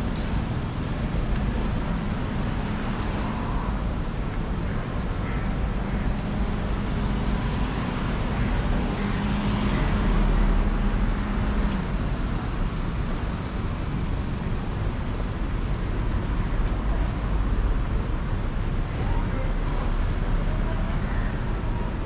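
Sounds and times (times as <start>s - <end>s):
car engines and tyres on road: 0.0s - 22.0s.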